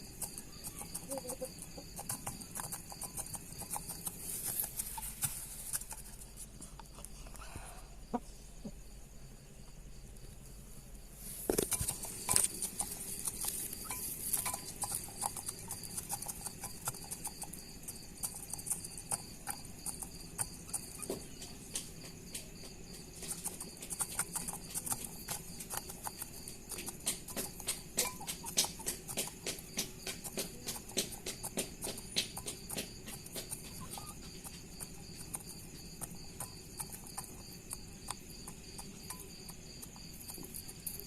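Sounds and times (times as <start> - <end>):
birds clicking and tapping: 0.0 - 7.0, 11.3 - 41.0.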